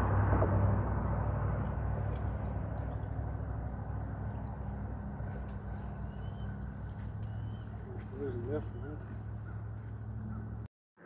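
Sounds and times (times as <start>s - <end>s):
low engine drone: 0.0s - 10.7s.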